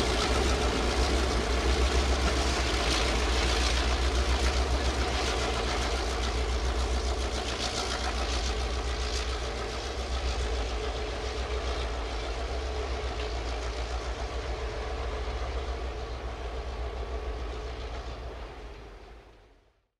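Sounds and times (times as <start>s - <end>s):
diesel locomotive engine rumble: 0.0s - 19.5s.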